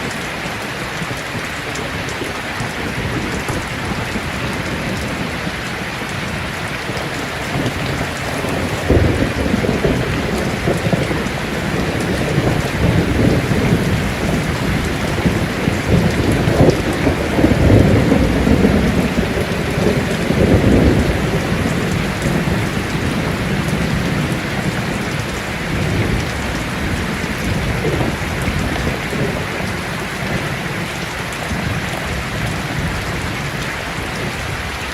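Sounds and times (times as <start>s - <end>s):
steady rain falling: 0.0s - 34.9s
low rumble of thunder: 1.4s - 34.8s.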